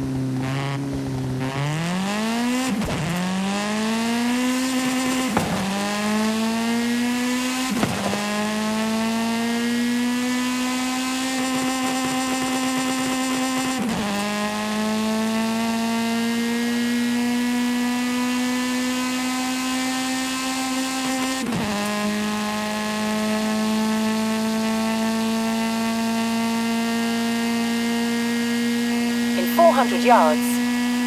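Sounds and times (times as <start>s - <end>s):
game car engine accelerating: 0.0s - 31.0s.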